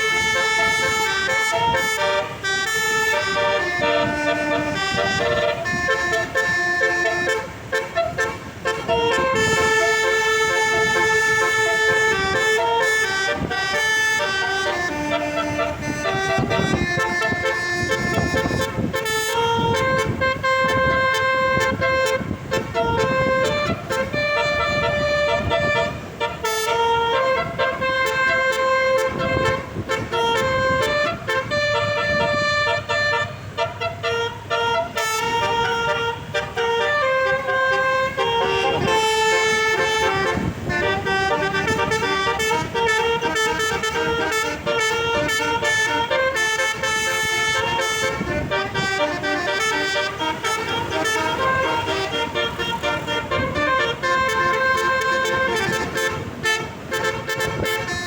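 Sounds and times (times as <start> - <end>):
low vehicle noise: 0.0 - 58.0
multi-tone bus horn tune: 0.0 - 58.0.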